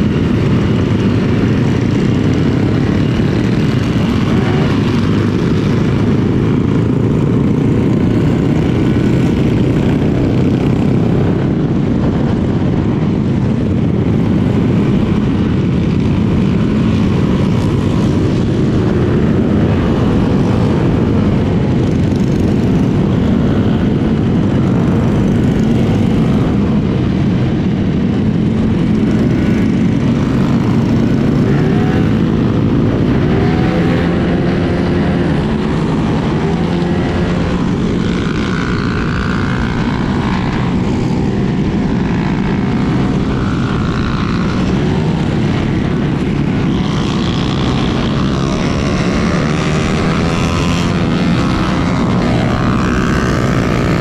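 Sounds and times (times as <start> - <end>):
wind and road rumble of scooter: 0.0 - 54.0.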